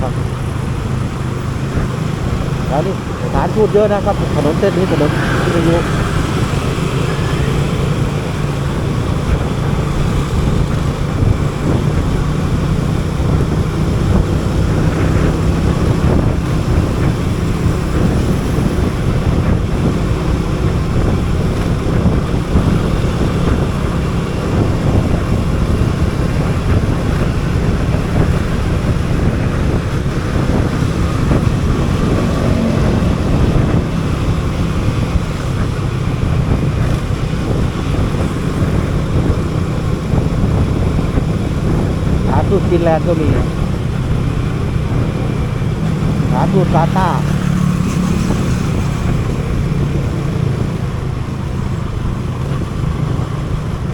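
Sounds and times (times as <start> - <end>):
motorcycle engine hum: 0.0 - 53.9
wind rushing over microphone: 0.0 - 53.9.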